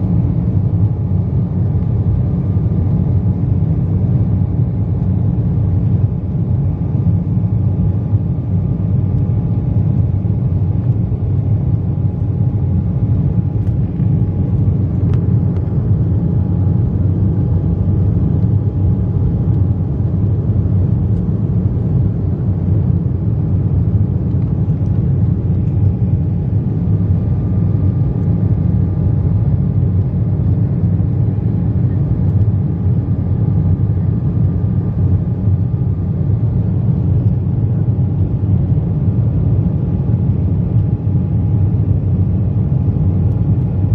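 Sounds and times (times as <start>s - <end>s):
airflow over cabin: 0.0s - 43.9s
low rumble of jet engines: 0.0s - 43.9s.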